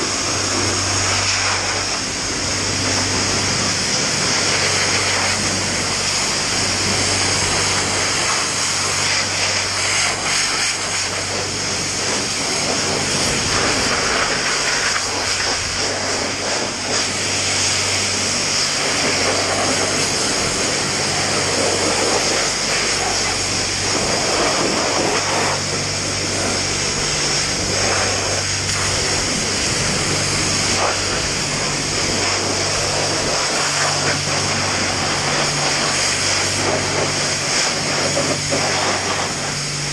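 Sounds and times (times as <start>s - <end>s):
high-pressure spray hissing: 0.0s - 39.9s
low steady hum: 0.0s - 39.9s.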